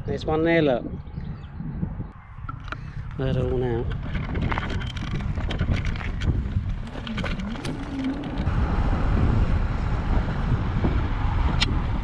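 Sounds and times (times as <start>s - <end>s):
wind rumbling on microphone: 0.0s - 12.0s
electric bike road noise: 1.0s - 12.0s.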